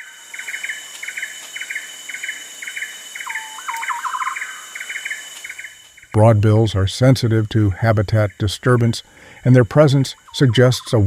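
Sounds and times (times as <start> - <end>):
high insect whine: 0.0 - 11.0
low rapid pulsed call: 0.0 - 11.0.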